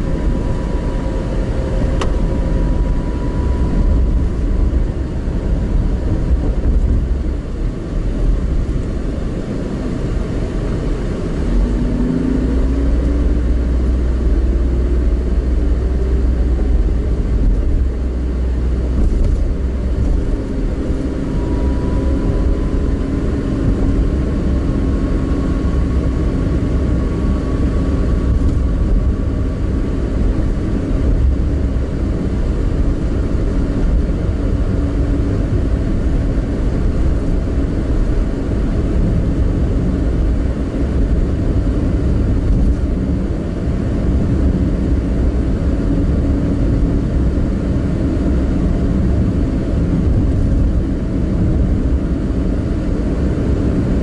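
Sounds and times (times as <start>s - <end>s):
car engine and tyre rumble: 0.0s - 54.0s
faint rising whine: 0.0s - 54.0s.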